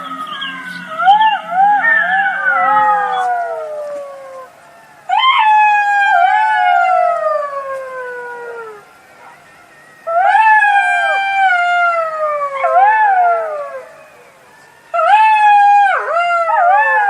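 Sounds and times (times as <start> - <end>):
jackal howling: 0.0 - 17.0.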